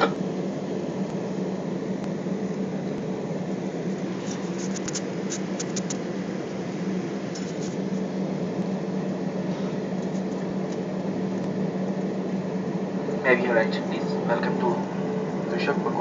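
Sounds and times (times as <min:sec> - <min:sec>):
airliner cabin hum: 0:00.0 - 0:16.0.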